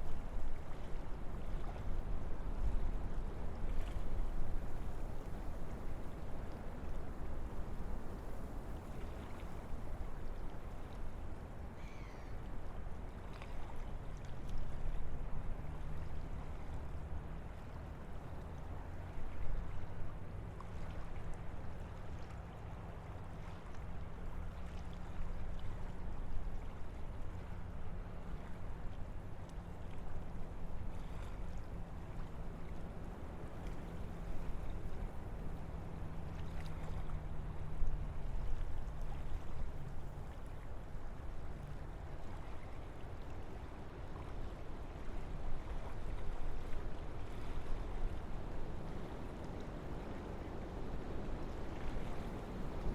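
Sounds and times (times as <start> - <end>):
wind through forest: 0.0 - 52.9.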